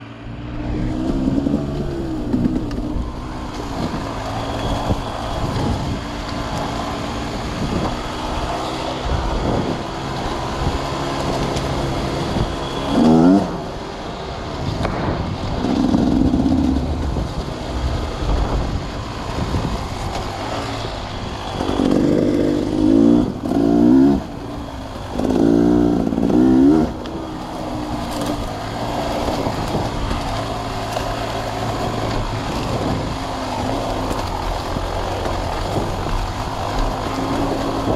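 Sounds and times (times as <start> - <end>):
sawmill machinery running: 0.0 - 37.9.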